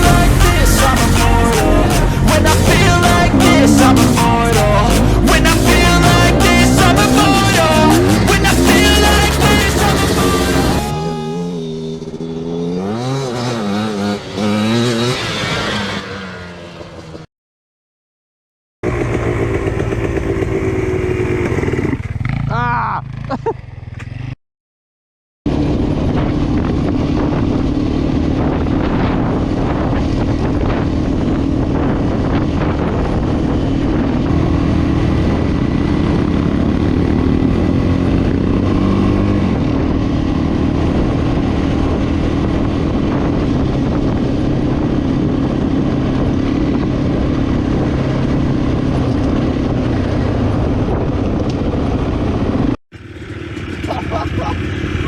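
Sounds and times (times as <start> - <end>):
two-stroke quad engine running: 0.0 - 15.0, 18.8 - 24.4, 25.5 - 55.0.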